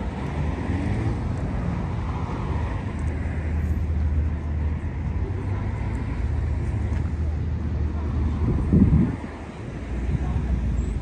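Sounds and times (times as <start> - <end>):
low rumble of city traffic: 0.0 - 11.0.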